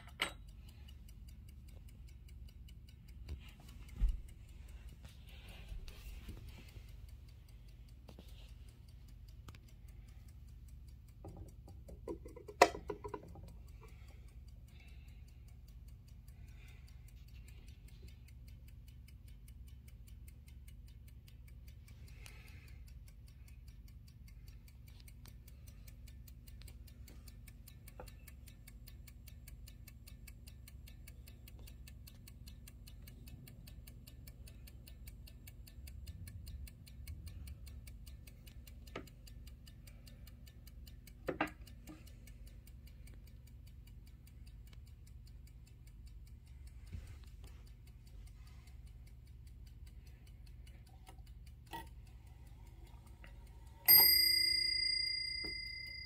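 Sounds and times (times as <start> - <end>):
clock ticking fast: 0.0 - 56.0.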